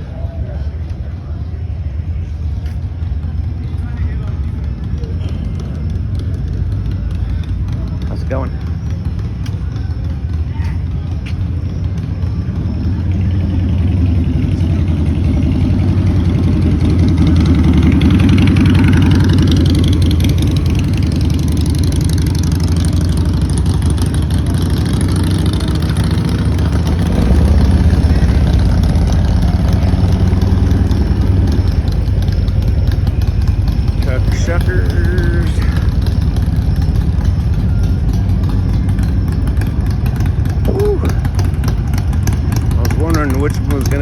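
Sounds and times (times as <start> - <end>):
motorcycle engines rumbling: 0.0 - 44.0.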